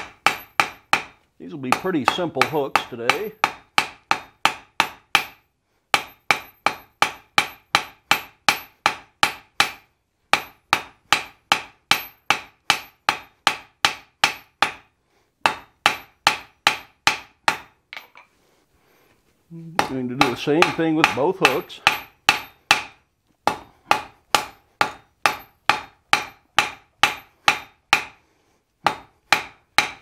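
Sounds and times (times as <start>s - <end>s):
hammer striking steel on anvil: 0.0s - 18.2s, 19.8s - 28.2s, 28.8s - 30.0s.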